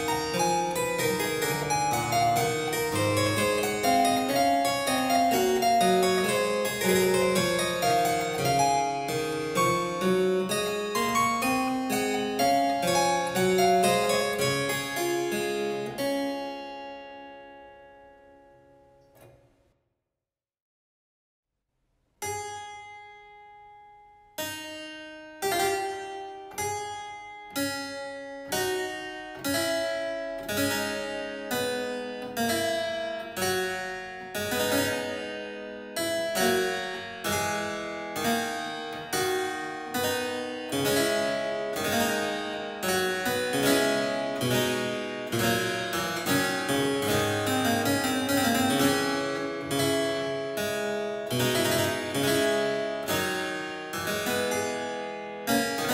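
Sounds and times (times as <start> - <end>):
harpsichord playing slow piece: 0.0 - 18.5, 22.3 - 55.9.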